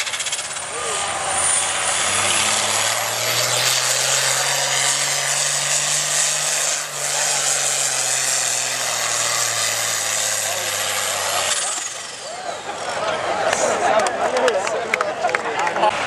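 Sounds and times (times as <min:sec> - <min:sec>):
tractor engine running under load: 0:00.0 - 0:14.1.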